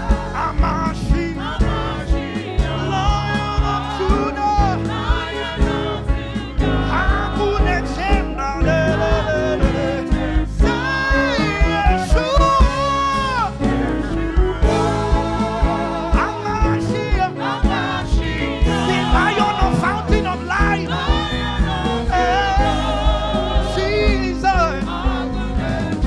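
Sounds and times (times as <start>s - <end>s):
live band playing: 0.0s - 26.0s.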